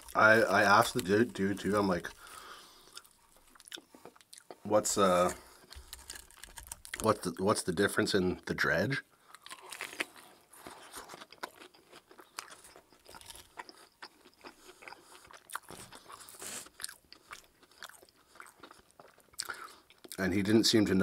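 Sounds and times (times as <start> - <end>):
person chewing crunchy fried chicken: 0.0 - 7.2, 9.2 - 20.2.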